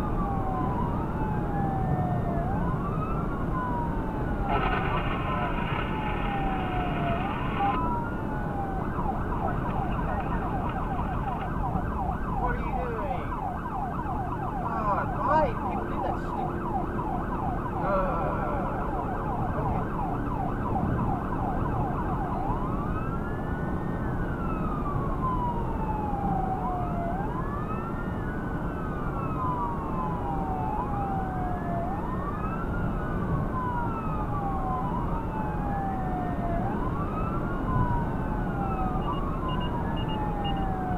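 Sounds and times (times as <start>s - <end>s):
emergency siren yelp and wail: 0.0s - 40.9s
vehicle road noise: 0.0s - 40.9s.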